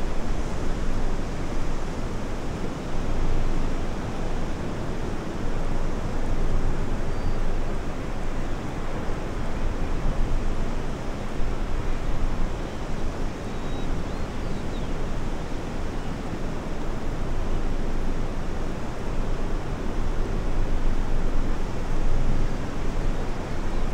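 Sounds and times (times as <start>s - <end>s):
wind: 0.0s - 23.9s.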